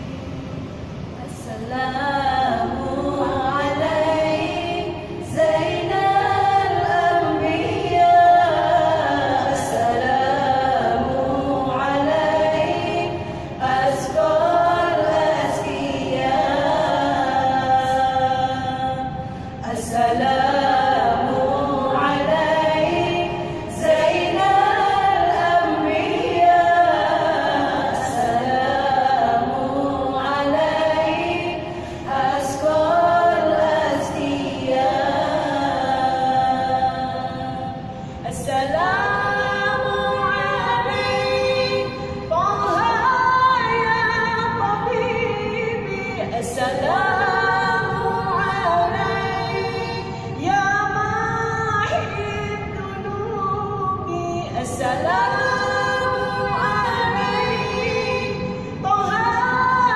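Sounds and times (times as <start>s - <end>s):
women singing a cappella: 0.0s - 59.9s.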